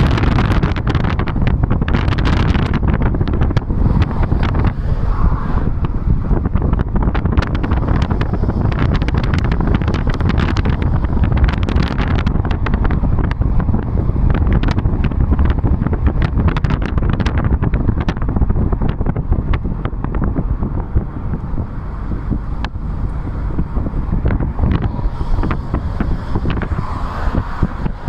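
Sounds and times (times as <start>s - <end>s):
car road noise rumble: 0.0s - 28.0s
wind buffeting microphone: 0.0s - 28.0s.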